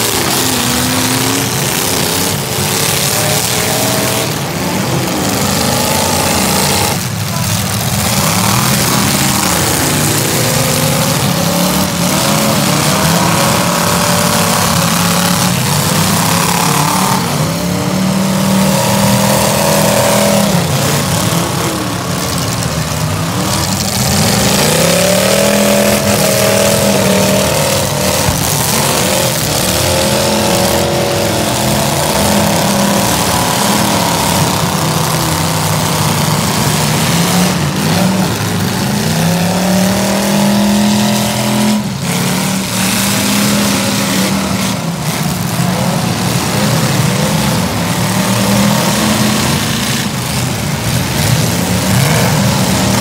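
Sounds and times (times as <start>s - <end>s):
car engines revving hard: 0.0s - 53.0s.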